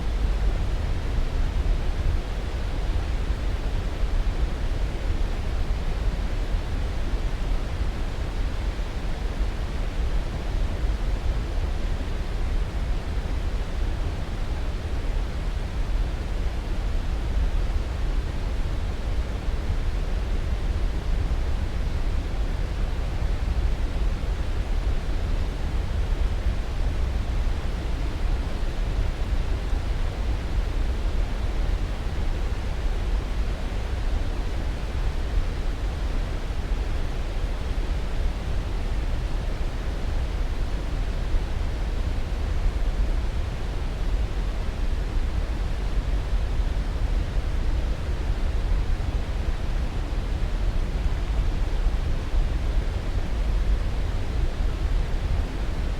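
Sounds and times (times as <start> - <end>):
deep white noise: 0.0 - 55.9.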